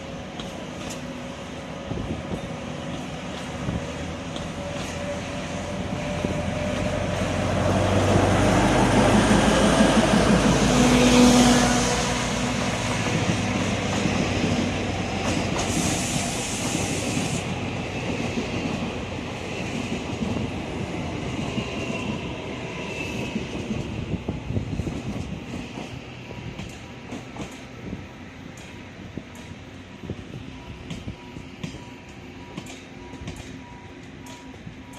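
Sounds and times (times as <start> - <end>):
train running gear rumbling: 0.0 - 34.9.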